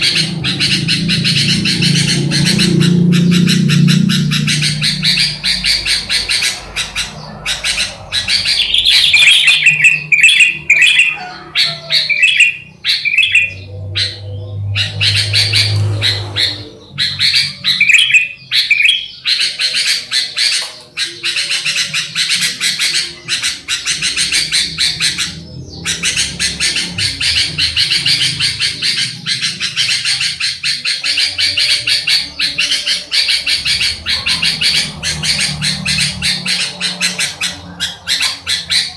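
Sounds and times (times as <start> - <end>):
bulbuls calling and chattering: 0.0 - 38.9.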